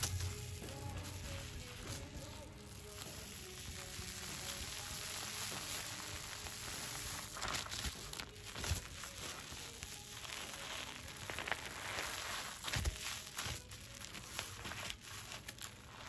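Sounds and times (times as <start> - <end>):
foam bubbles crackling: 0.0 - 16.0
foam squishes: 0.0 - 16.0.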